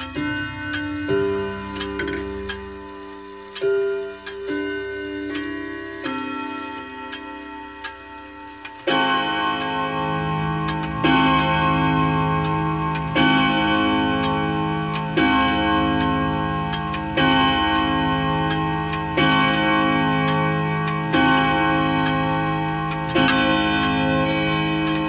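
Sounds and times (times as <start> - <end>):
clock chime melody: 0.0 - 25.0
clock gong strokes: 0.0 - 25.0
pendulum ticking: 0.0 - 25.0.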